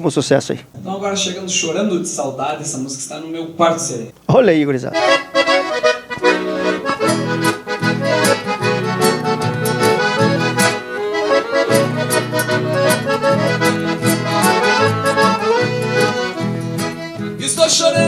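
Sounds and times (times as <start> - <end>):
accordion leading a band: 0.0 - 18.0.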